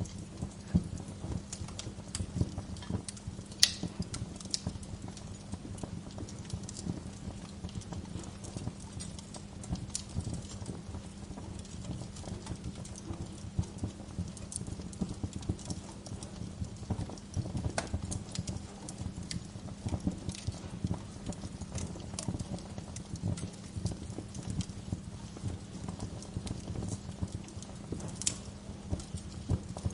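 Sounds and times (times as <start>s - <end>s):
bonfire crackling: 0.0s - 29.9s
low rumble of flames: 0.0s - 29.9s.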